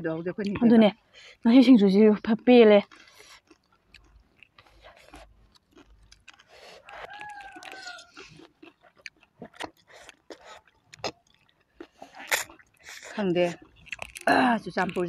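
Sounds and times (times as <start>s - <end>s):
chewing noodles: 2.8s - 15.0s
wet mouth clicks: 2.9s - 15.0s.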